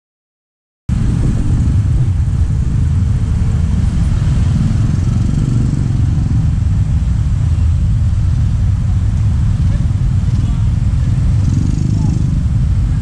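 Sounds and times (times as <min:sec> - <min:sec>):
traffic engine rumble: 0:00.9 - 0:13.0.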